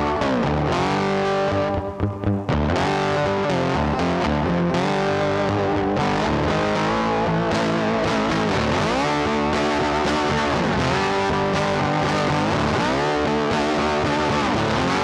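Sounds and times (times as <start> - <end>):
distorted electric guitar music: 0.0 - 15.0.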